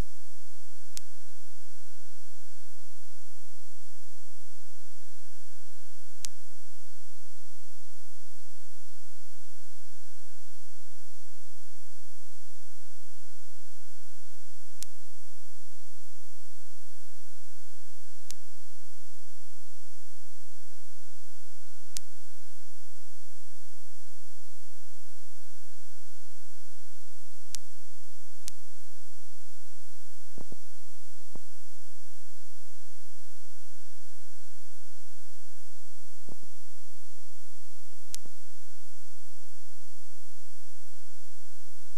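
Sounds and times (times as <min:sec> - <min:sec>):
electronic whine and hum: 0:00.0 - 0:41.9.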